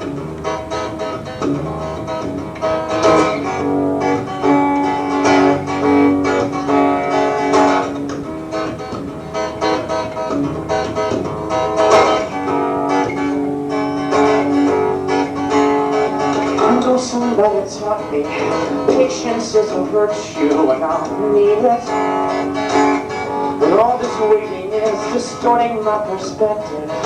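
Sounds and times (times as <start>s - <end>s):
guitar chords strummed: 0.0s - 27.0s.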